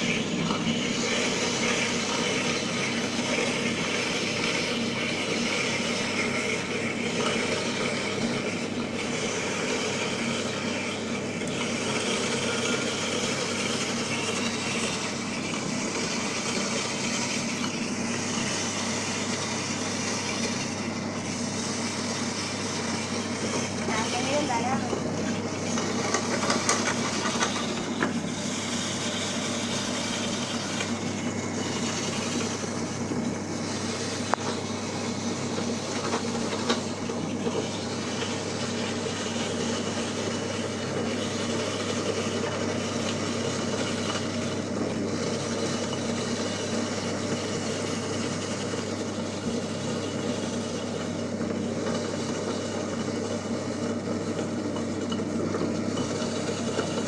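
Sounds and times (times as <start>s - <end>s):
electric grinder motor running: 0.0s - 57.0s.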